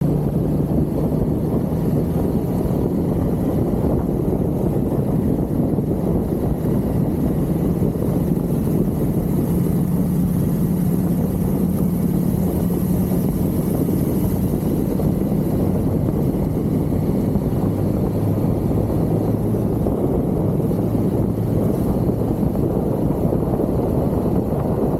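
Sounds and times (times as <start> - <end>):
motorcycle engine running: 0.0 - 24.9
wind rush on microphone: 0.0 - 24.9.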